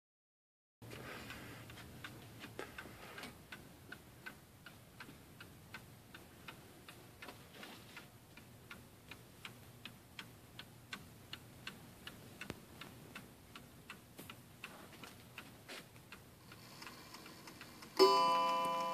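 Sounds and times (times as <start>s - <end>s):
clock ticking: 1.2s - 7.4s, 8.0s - 18.9s.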